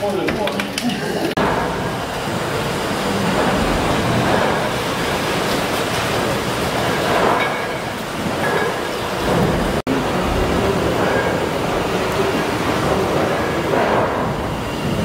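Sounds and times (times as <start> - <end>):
steam engine hiss and rumble: 1.1 - 15.0.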